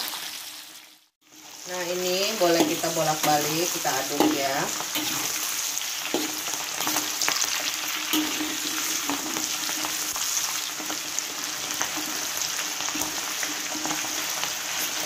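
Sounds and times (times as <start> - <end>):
beans sizzling in hot oil: 0.0 - 15.0
spatula stirring in a pan: 2.3 - 15.0.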